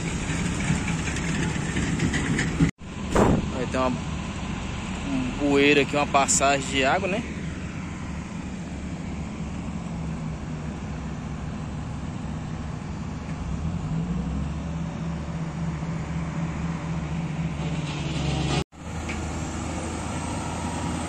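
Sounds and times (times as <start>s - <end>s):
heavy machinery diesel engines drone: 0.0s - 21.0s.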